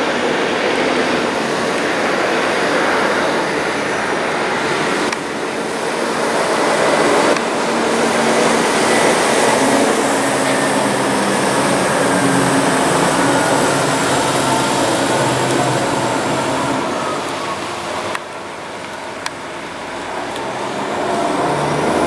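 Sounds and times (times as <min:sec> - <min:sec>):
fire engine diesel engine: 0:00.0 - 0:22.0
road noise: 0:00.0 - 0:22.0.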